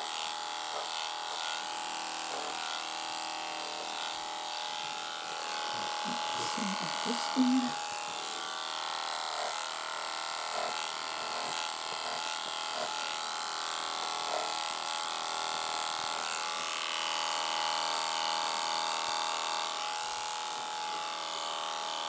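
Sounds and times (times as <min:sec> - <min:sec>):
electric clipper buzzing: 0:00.0 - 0:22.0.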